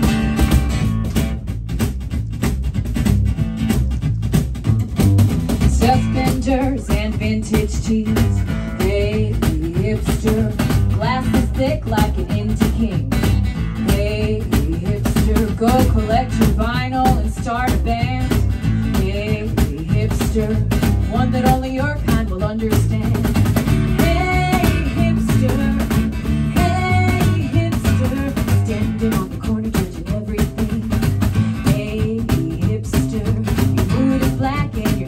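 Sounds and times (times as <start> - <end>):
box drum beat: 0.0 - 35.0
strummed acoustic guitar: 0.0 - 35.0
upright bass: 0.0 - 35.0
woman singing: 5.6 - 35.0.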